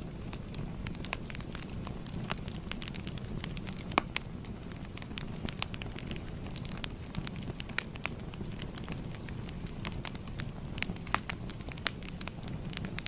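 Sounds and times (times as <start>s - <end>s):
crackling fire: 0.0s - 13.0s.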